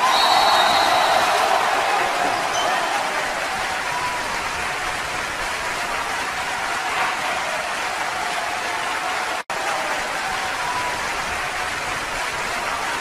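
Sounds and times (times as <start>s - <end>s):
crowd applauding and cheering: 0.0s - 13.0s.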